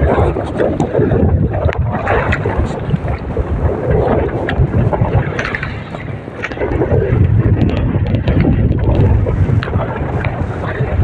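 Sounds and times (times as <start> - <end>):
strong wind buffeting microphone: 0.0 - 11.0
waves splashing against boat: 0.0 - 11.0.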